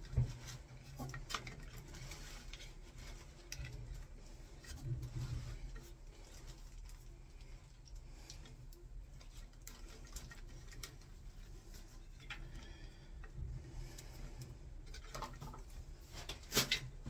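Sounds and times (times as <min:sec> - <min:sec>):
cable clicks and rustles: 0:00.0 - 0:17.0
low steady hum: 0:00.0 - 0:17.0.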